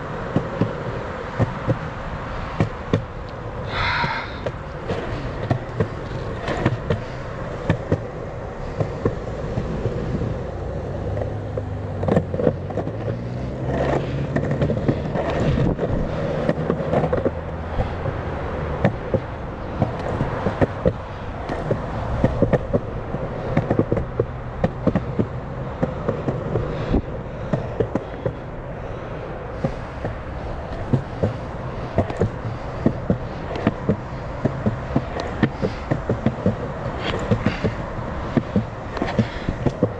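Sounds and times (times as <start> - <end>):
skateboard wheels rolling on concrete: 0.0 - 39.9
wheels clacking over pavement joints: 0.0 - 39.9.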